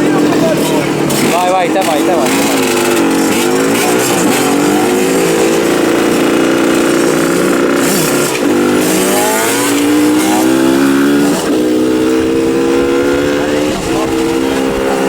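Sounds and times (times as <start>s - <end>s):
motorcycle engines revving high: 0.0s - 15.0s.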